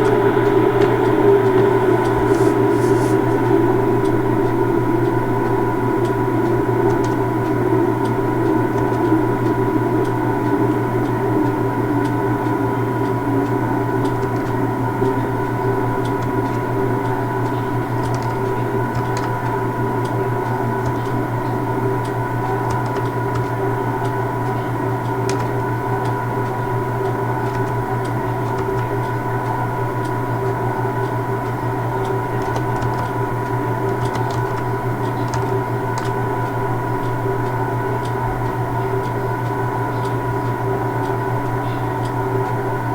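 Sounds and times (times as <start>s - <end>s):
train equipment humming: 0.0s - 42.9s.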